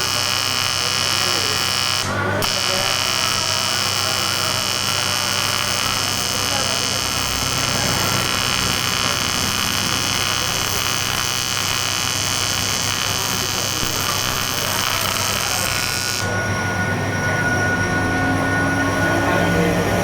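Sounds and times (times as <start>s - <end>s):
welding arc buzzing: 0.0s - 16.5s.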